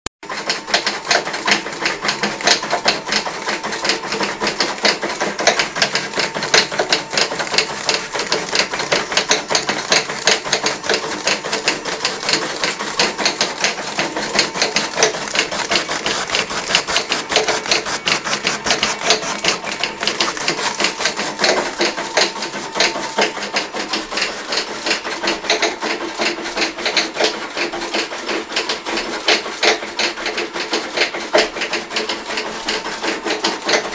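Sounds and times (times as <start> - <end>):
die-cutter clattering: 0.2 - 33.9.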